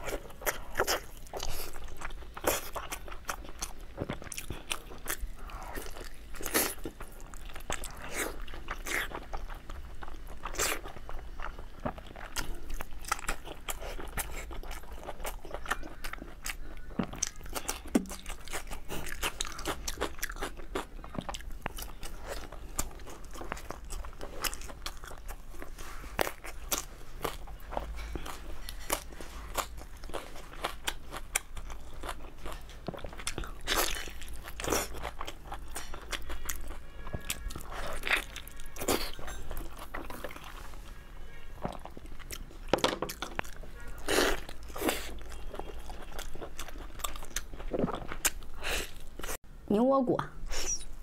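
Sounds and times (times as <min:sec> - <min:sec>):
close biting and chewing: 0:00.0 - 0:40.7, 0:41.6 - 0:49.4.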